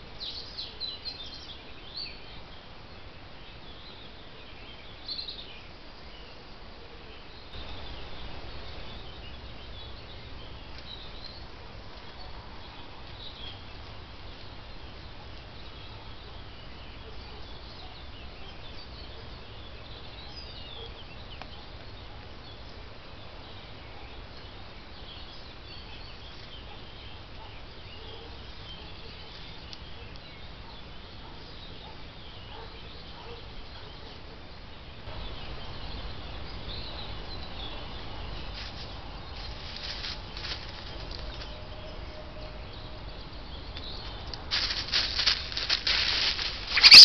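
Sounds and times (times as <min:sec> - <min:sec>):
small birds chirping: 0:00.0 - 0:47.0
steady background hiss: 0:00.0 - 0:47.0.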